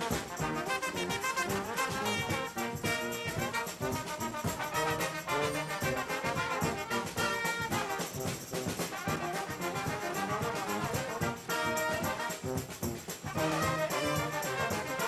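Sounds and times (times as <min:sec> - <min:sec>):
trombones and trumpets: 0:00.0 - 0:15.0.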